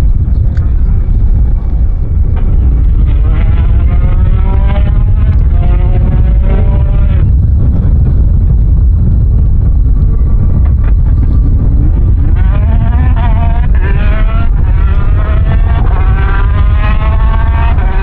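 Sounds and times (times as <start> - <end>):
rally car engine accelerating: 0.0 - 18.0
strong low rumble: 0.0 - 18.0.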